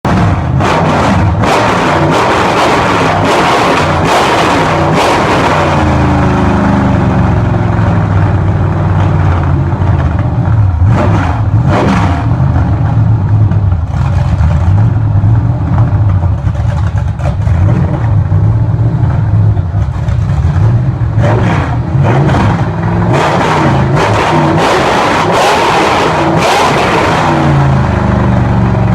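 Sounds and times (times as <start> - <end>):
engine running and revving: 0.0 - 28.9.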